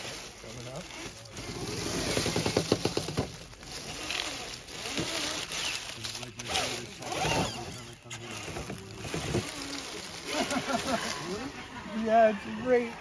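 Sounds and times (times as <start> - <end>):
electric motor and gears whirring: 0.0 - 11.6.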